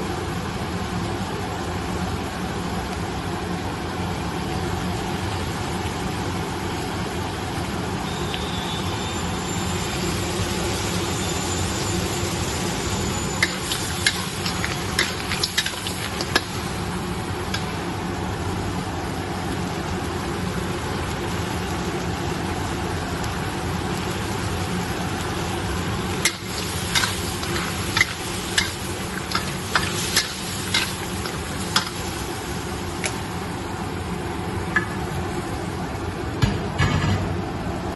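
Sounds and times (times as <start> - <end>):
food sizzling in a pan: 0.0 - 36.3.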